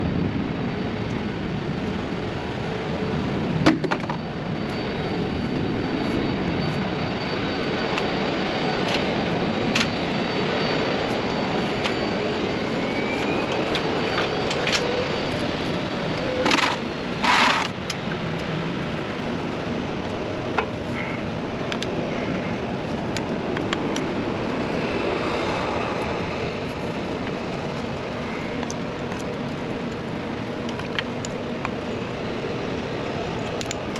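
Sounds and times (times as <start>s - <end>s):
engine rumbling: 0.0s - 33.9s.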